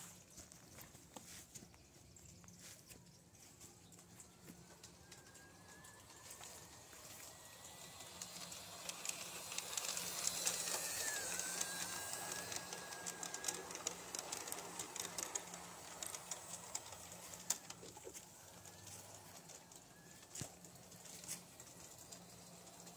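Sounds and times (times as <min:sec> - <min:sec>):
model train wheels clicking: 0:03.7 - 0:22.9
thin motor whine: 0:03.8 - 0:22.9.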